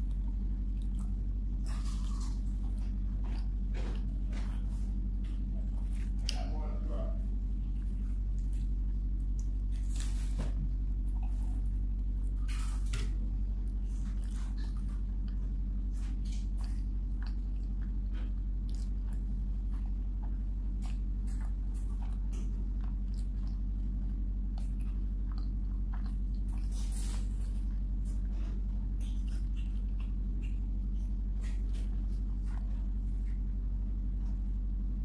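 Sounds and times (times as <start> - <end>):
chewing food: 0.0 - 34.7
low electrical hum: 0.0 - 35.0.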